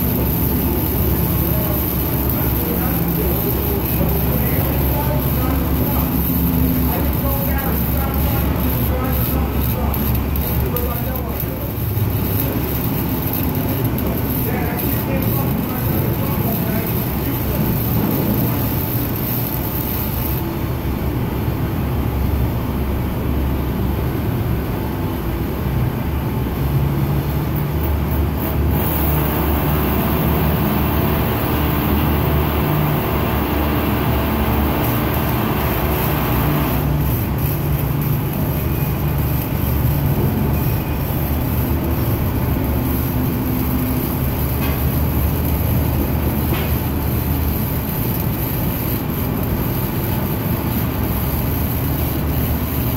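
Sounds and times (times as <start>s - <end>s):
machinery rumble: 0.0s - 22.4s, 28.0s - 52.9s.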